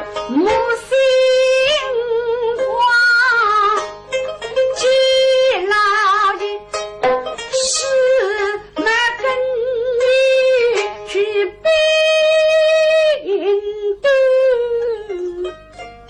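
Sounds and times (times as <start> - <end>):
woman singing: 0.0 - 3.9, 4.6 - 6.7, 7.5 - 15.6.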